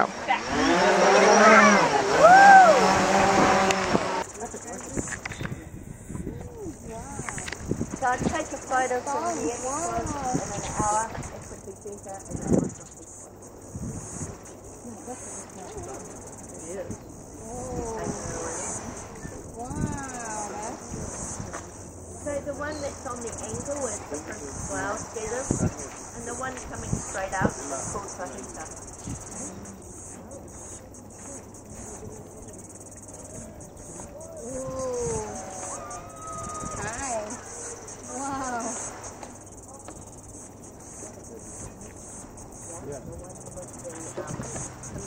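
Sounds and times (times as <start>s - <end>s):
faint distant voices: 0.0s - 45.0s
insect chorus trilling: 0.0s - 45.0s.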